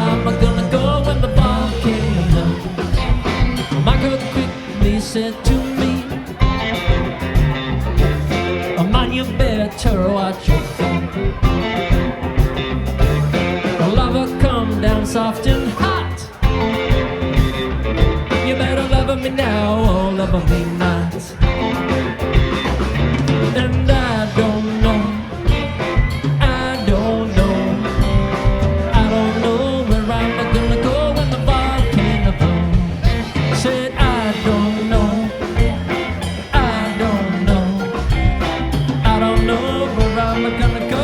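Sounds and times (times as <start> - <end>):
bending lead guitar line: 0.0 - 41.0
live rock band playing: 0.0 - 41.0.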